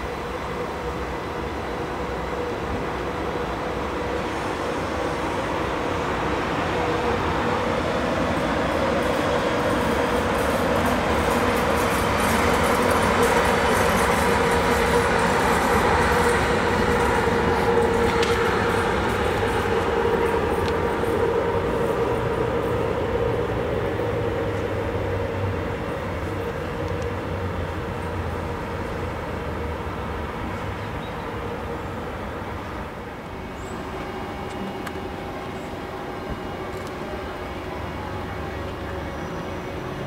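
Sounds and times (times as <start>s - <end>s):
electric locomotive hum: 0.0s - 40.0s
wheel and rail rumble: 0.0s - 40.0s.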